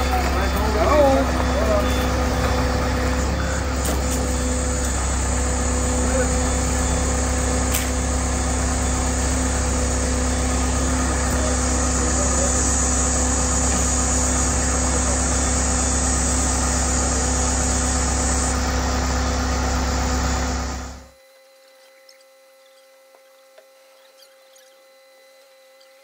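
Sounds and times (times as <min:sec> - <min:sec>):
truck engine running: 0:00.0 - 0:21.1.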